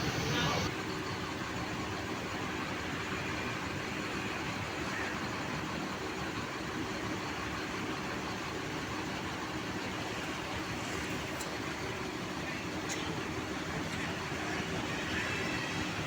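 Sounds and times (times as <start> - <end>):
bus diesel engine idling: 0.0 - 16.0.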